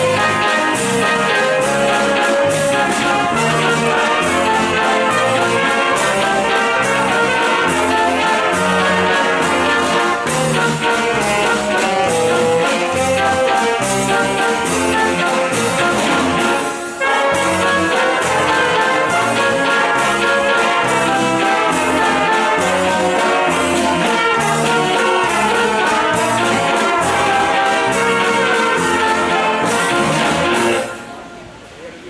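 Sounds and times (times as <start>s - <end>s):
snare drum beat: 0.0s - 30.9s
brass and wind band playing: 0.0s - 31.7s.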